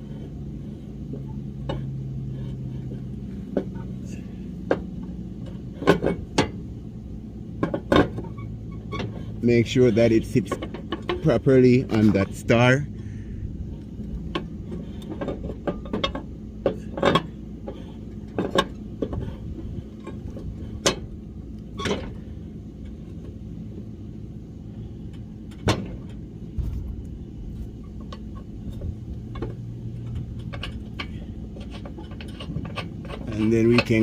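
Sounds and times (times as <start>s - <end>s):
steady low hum: 0.0s - 34.0s
metal clinks and knocks: 1.1s - 6.7s, 7.5s - 12.8s, 13.7s - 23.4s, 25.1s - 34.0s.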